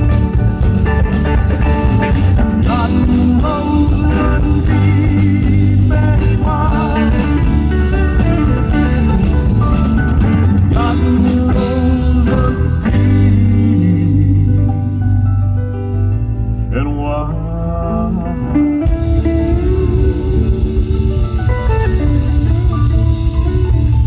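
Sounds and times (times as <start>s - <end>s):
live rock band playing: 0.0s - 16.7s, 17.6s - 24.0s.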